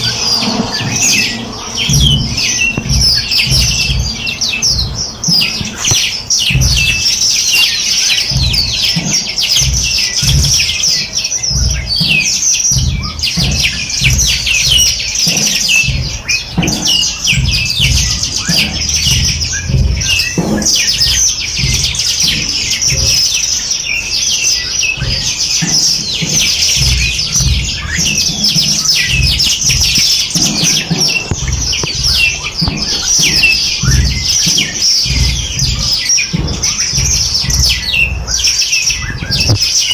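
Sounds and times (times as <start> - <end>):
low thumps: 0.0 - 39.9
small birds chirping: 0.0 - 39.9.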